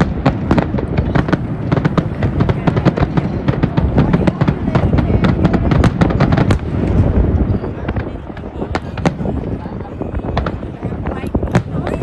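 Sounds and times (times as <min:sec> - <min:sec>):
fireworks bangs and crackles: 0:00.0 - 0:12.0
rumble of fireworks booms: 0:00.0 - 0:12.0.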